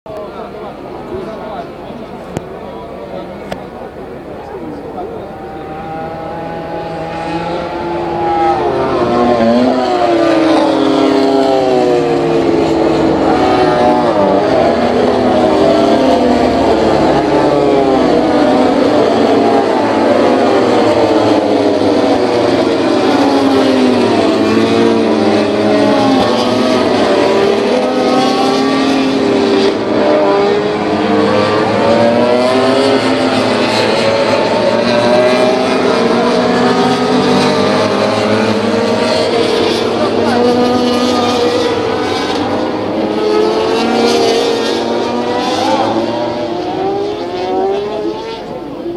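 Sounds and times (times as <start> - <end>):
racing motorcycles revving: 0.1 - 48.9.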